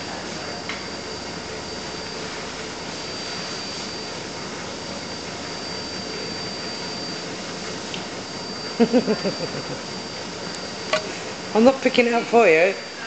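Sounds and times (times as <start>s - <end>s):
high continuous whine: 0.0s - 13.0s.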